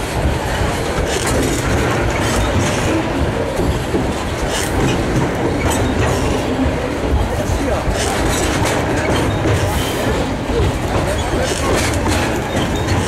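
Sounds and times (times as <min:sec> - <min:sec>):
freight train wheels rumbling on rails: 0:00.0 - 0:13.0
train cars clanking: 0:00.0 - 0:13.0.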